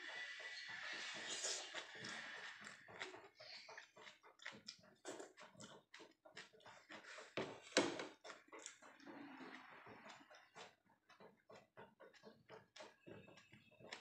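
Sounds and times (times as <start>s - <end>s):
person chewing and lip smacking: 0.2s - 14.0s.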